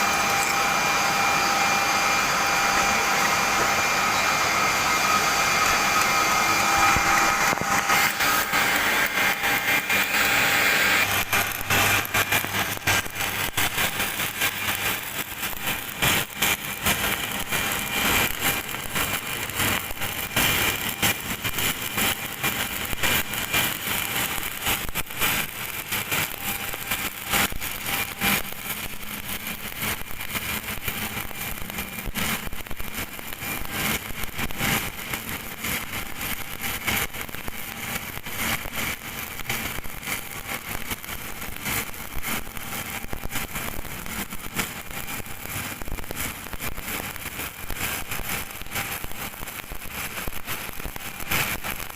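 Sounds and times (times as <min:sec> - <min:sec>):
welding arc crackling and sizzling: 0:00.0 - 0:51.9.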